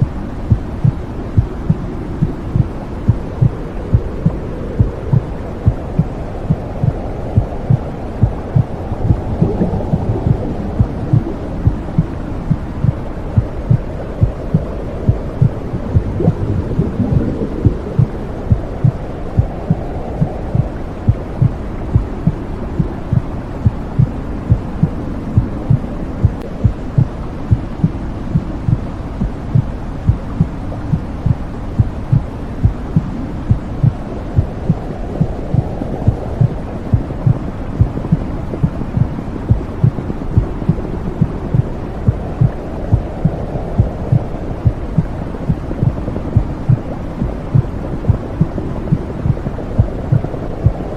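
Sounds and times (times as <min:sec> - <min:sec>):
heartbeat thumping: 0:00.0 - 0:50.9
muffled low whooshing: 0:00.0 - 0:50.9.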